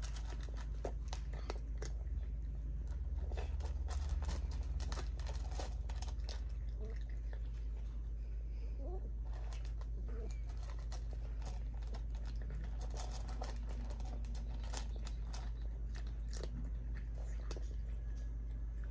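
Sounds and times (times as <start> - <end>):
cat crunching dry kibble: 0.0 - 8.2, 9.1 - 18.9
steady low hum: 0.0 - 18.9.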